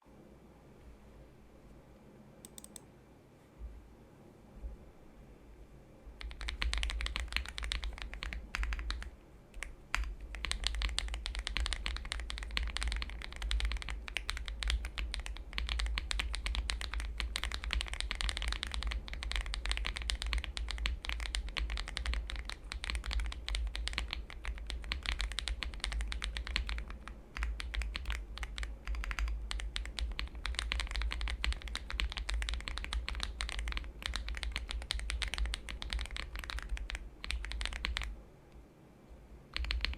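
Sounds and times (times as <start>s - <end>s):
fast mechanical keyboard typing: 2.5s - 2.8s, 6.2s - 38.2s, 39.5s - 39.9s.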